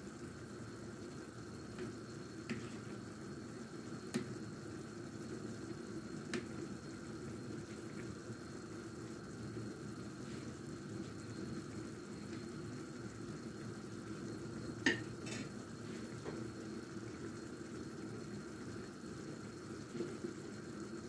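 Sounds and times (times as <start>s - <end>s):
soup bubbling: 0.2s - 21.0s.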